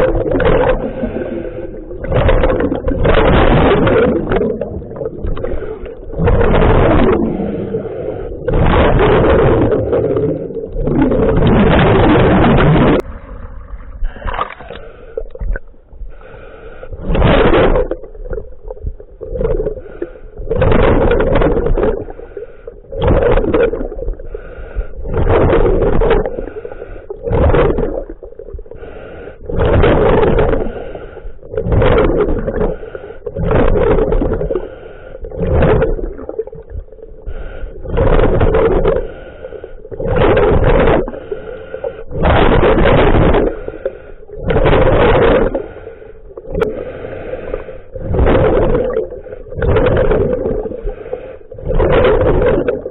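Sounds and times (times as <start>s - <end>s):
exhaled bubbles rushing underwater: 0.0s - 52.9s.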